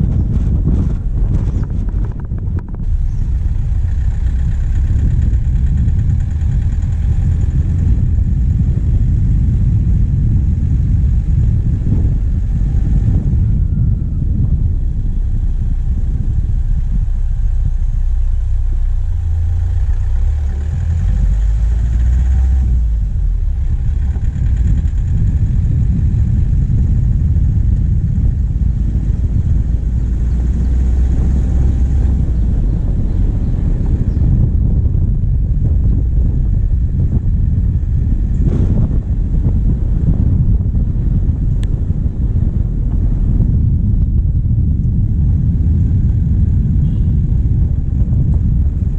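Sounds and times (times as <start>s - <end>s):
diesel engine low rumble: 0.0s - 48.9s.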